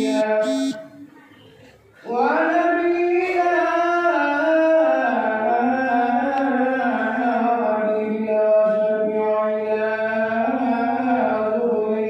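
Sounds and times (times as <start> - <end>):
man chanting: 0.0 - 0.8, 2.1 - 12.0.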